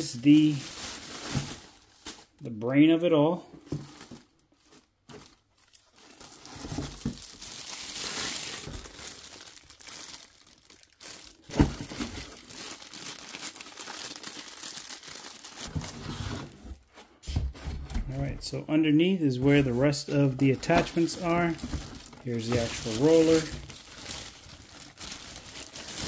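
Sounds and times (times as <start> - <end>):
plastic wrap crinkling: 0.0 - 2.4, 3.8 - 16.6, 19.4 - 26.0.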